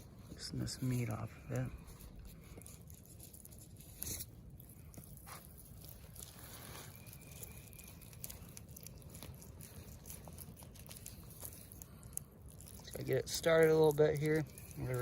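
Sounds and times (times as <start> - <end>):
wet squishing and tearing of meat: 0.0 - 15.0.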